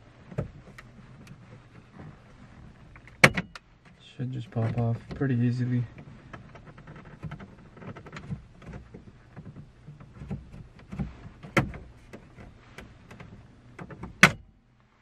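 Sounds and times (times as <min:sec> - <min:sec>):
plastic clicking and creaking: 0:00.3 - 0:14.4.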